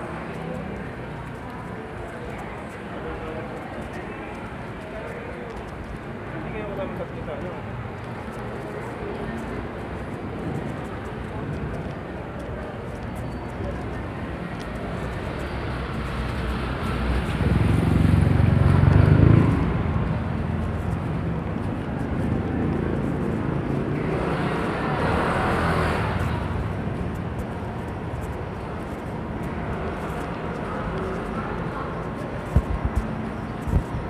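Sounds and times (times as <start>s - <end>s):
city traffic: 0.0s - 34.0s.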